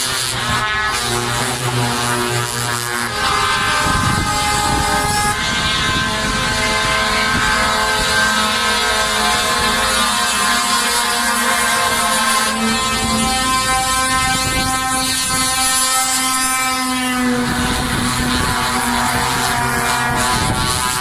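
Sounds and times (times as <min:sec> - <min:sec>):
truck air horns honking: 0:00.0 - 0:21.0.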